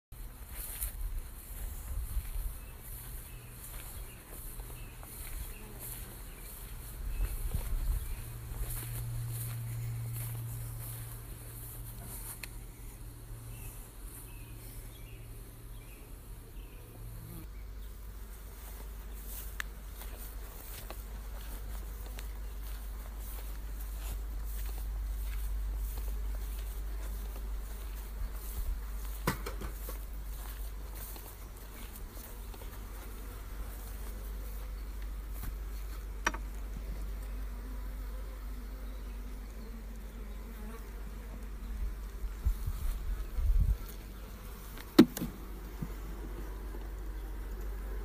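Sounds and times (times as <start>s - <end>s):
bees buzzing: 0.2s - 48.0s.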